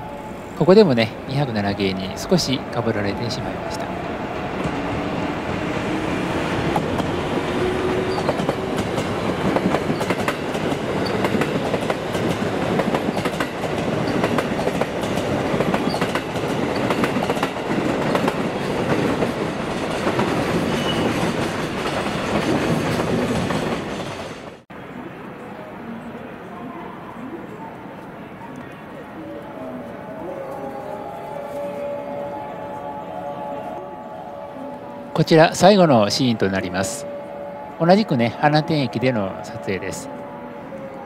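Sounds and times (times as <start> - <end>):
trains rumbling past: 0.0 - 41.0.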